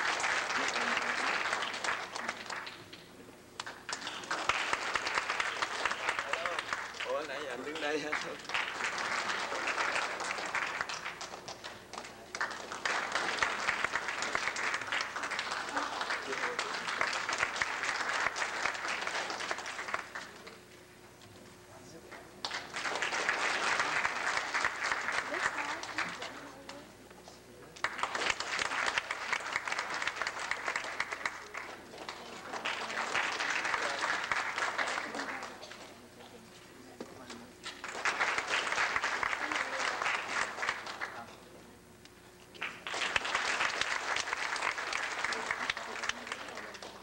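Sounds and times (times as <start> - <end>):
audience applauding: 0.0 - 3.0, 3.6 - 20.6, 22.1 - 26.4, 27.8 - 35.9, 37.6 - 41.3, 42.5 - 47.0.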